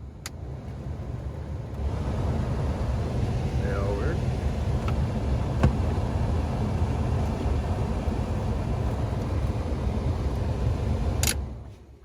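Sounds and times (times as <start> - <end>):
heater blower fan running: 0.0 - 12.0.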